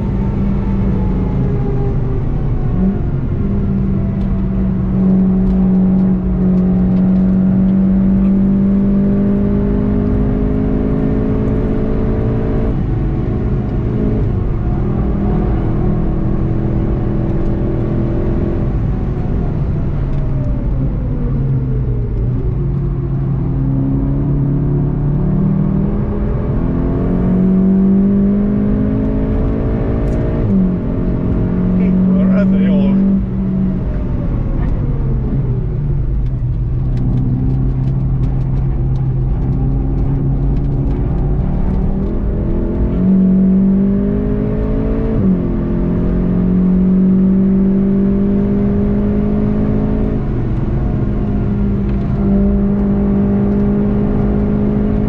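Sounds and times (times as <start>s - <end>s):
car engine under hard driving: 0.0s - 55.0s.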